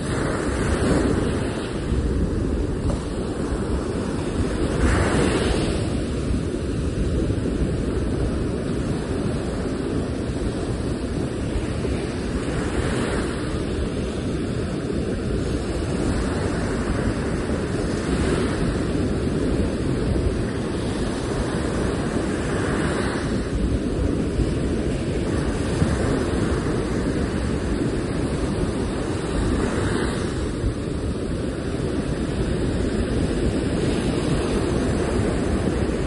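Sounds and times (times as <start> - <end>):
sea surf breaking on beach: 0.0 - 36.0.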